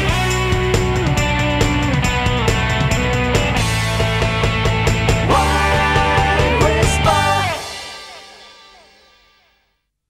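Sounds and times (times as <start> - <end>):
rock instrumental music: 0.0 - 9.6.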